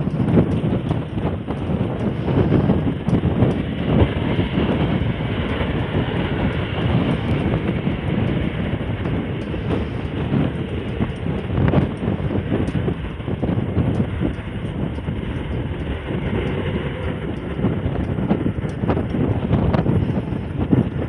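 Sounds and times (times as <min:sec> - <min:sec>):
jet engine rumble: 0:00.0 - 0:21.0
wind buffeting microphone: 0:00.0 - 0:21.0.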